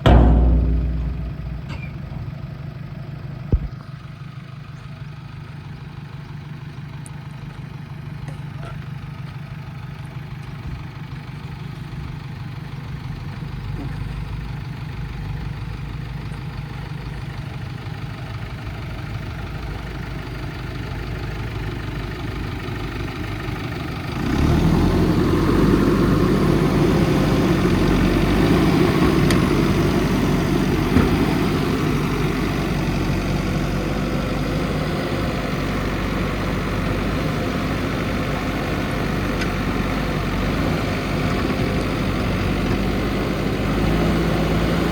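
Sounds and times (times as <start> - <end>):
diesel engine idling and revving: 0.0 - 44.9.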